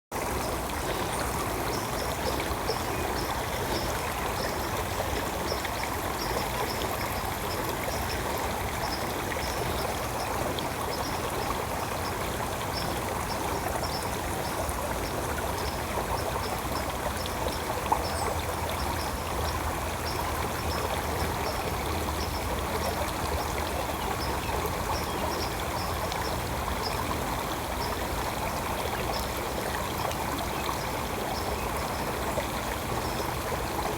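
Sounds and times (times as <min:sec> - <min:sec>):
stream water trickling: 0:00.1 - 0:33.9.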